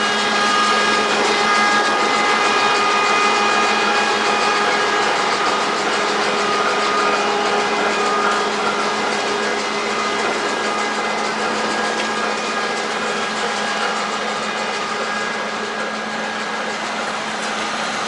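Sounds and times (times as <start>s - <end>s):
locomotive machinery whirring: 0.0s - 18.0s.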